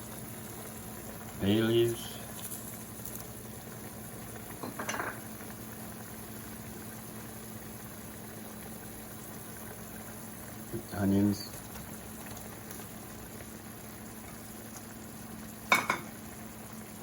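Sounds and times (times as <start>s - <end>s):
pot simmering and bubbling: 0.0s - 17.0s.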